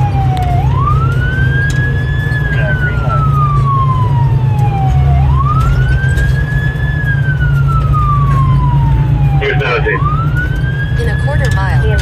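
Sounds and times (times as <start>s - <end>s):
fire truck siren wailing: 0.0s - 12.0s
truck engine and road rumble: 0.0s - 12.0s.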